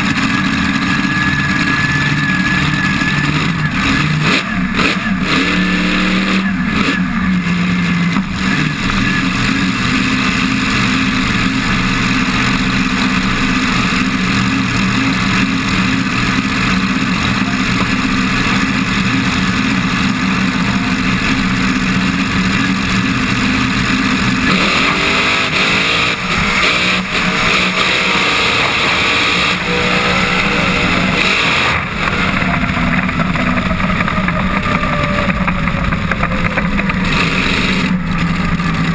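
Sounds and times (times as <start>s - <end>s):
drag car engine: 0.0s - 38.9s.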